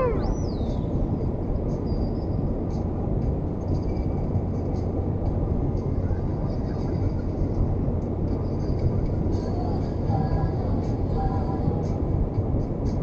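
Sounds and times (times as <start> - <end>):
road and engine drone: 0.0 - 13.0.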